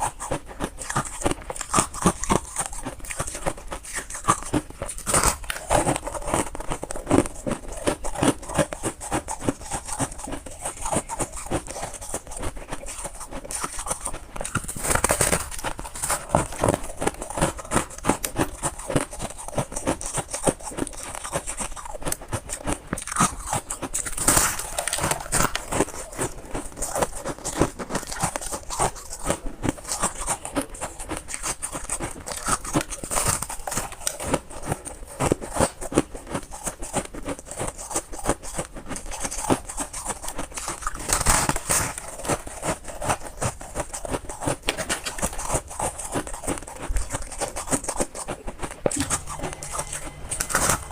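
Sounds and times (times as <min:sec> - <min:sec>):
chewing crunchy frost: 0:00.0 - 0:50.9.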